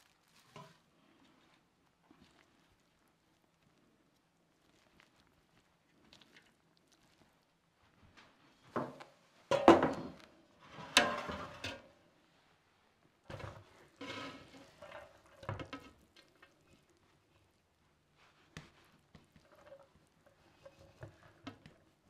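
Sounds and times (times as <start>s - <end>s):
cloth and rice rustling: 0.0s - 9.5s, 12.2s - 22.0s.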